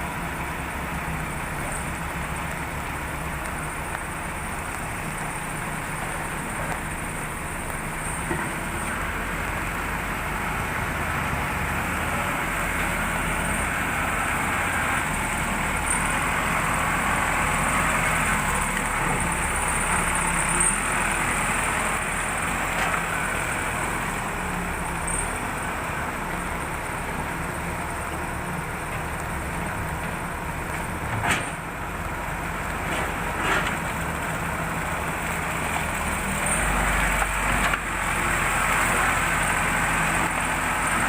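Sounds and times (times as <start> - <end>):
backhoe diesel engine running: 0.0 - 41.0.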